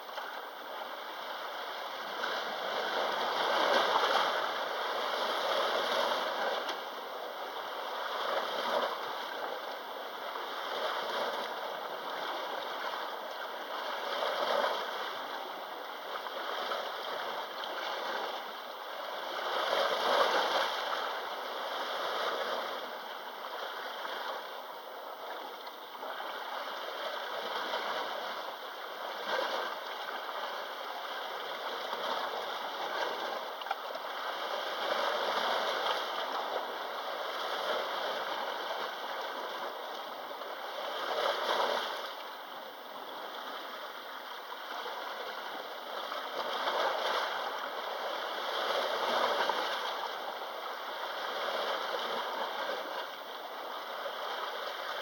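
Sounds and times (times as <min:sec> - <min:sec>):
sea waves washing on shore: 0:00.0 - 0:55.0.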